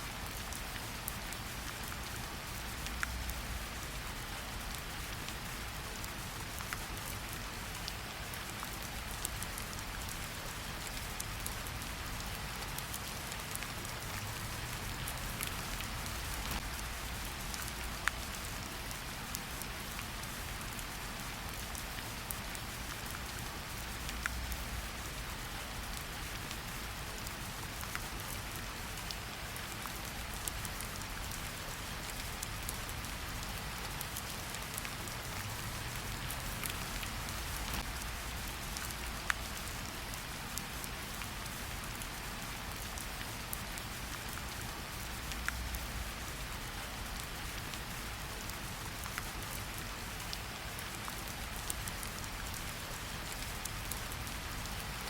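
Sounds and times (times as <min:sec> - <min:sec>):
steady rain in a forest: 0:00.0 - 0:55.0
raindrop ticks and splashes: 0:00.1 - 0:55.0.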